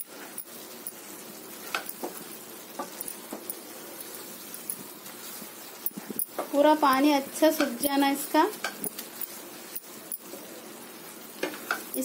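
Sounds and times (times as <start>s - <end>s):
wooden spatula stirring: 0.0s - 9.9s
milk mixture sizzling and bubbling: 0.0s - 12.0s.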